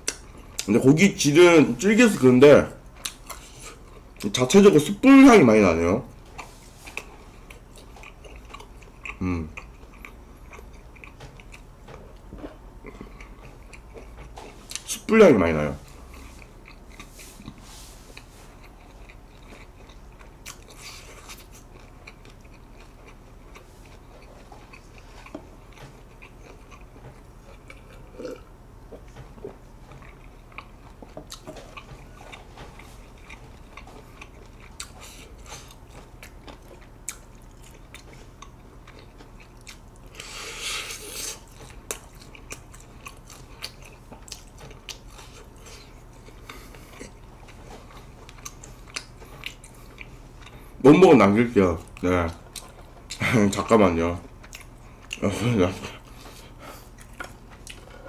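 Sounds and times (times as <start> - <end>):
low steady hum: 0.0 - 58.0
close chewing and biting: 2.9 - 4.5, 6.2 - 15.1, 15.8 - 51.0, 51.7 - 58.0.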